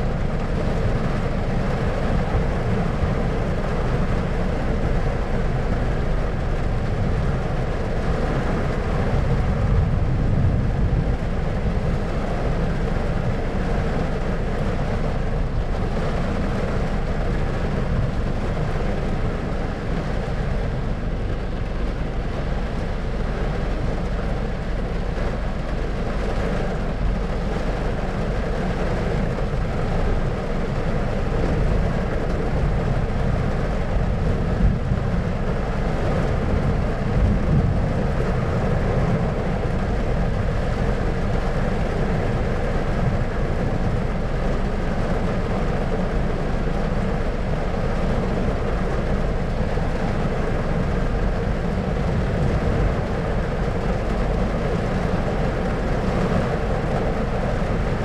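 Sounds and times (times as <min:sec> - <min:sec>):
steady low rumbling noise: 0:00.0 - 0:58.0.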